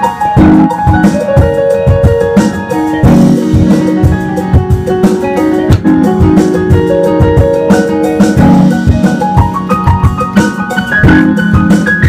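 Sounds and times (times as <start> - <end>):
keyboard chords and runs: 0.0 - 12.0
steady drum beat: 0.0 - 12.0.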